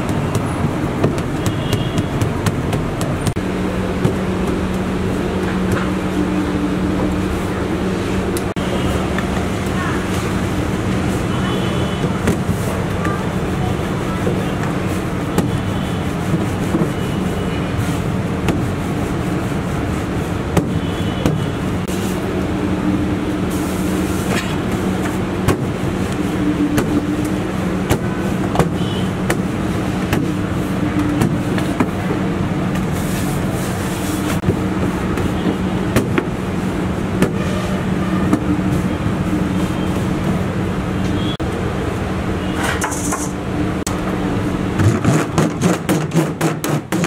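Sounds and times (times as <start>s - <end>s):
mechanical hum: 0.0s - 47.0s.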